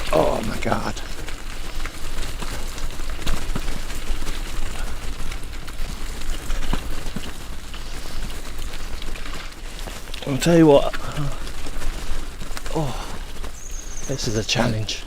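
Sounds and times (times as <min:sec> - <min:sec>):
bicycle rumbling over muddy trail: 0:00.0 - 0:15.0.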